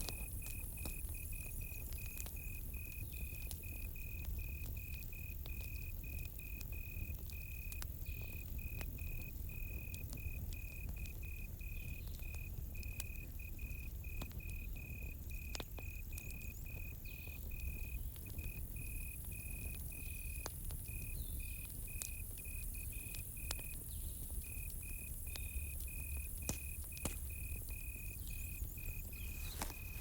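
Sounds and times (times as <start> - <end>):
campfire crackling and popping: 0.0 - 30.0
cricket chirping: 0.0 - 30.0.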